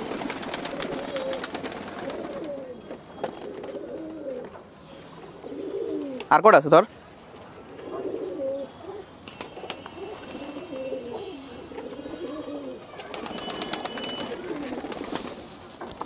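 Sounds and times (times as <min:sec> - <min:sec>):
pigeons cooing: 0:00.0 - 0:06.4, 0:07.4 - 0:15.6.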